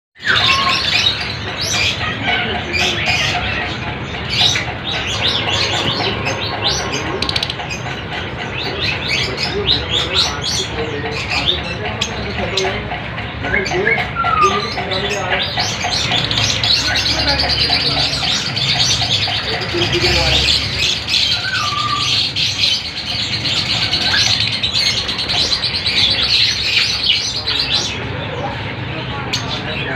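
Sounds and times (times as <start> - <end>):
lovebirds chirping: 0.2 - 29.9.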